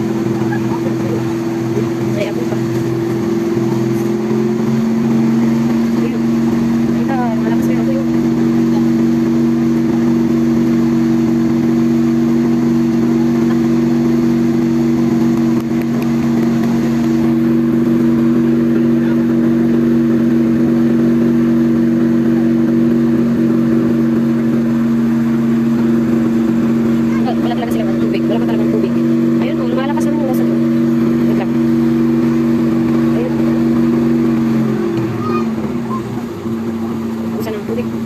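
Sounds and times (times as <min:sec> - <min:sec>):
truck engine humming: 0:00.0 - 0:38.0.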